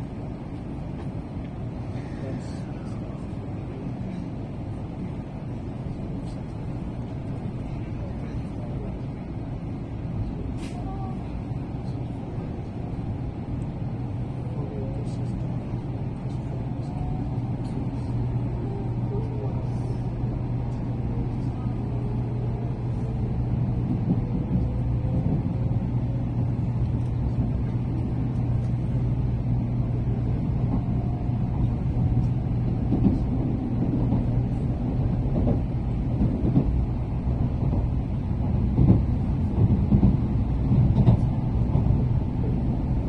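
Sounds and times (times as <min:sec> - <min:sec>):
train interior rumble and hum: 0:00.0 - 0:43.0.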